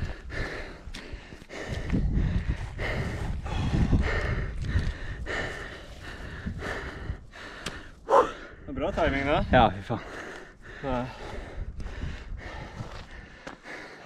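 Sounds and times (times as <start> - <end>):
man panting heavily: 0.0 - 14.0.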